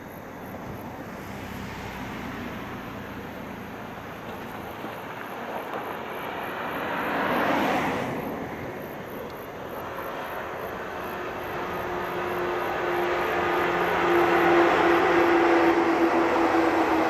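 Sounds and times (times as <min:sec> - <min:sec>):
distant electric train approaching: 0:00.0 - 0:17.0
open-air background noise: 0:00.0 - 0:17.0
vehicle passing: 0:00.5 - 0:17.0.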